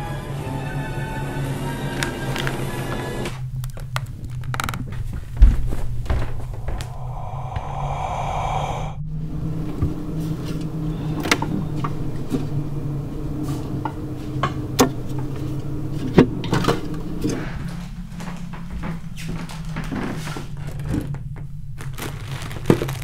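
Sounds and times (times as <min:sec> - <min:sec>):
eerie droning film sound: 0:00.0 - 0:23.0
low steady hum: 0:01.9 - 0:23.0.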